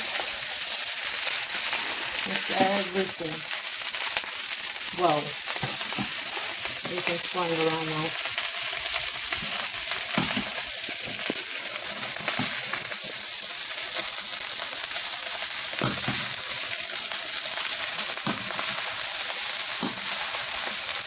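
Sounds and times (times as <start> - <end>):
rice sizzling in a wok: 0.0 - 21.0
utensil scraping a wok: 0.0 - 21.0.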